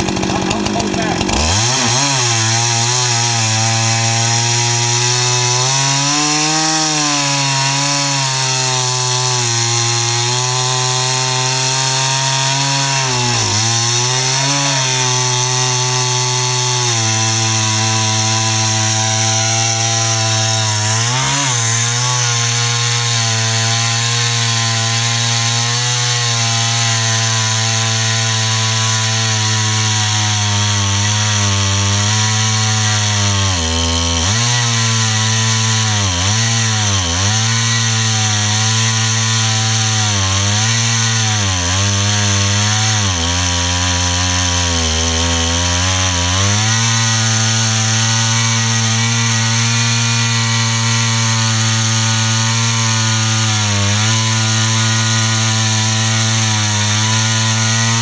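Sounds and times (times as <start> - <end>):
chainsaw ripping a log: 0.0 - 58.0.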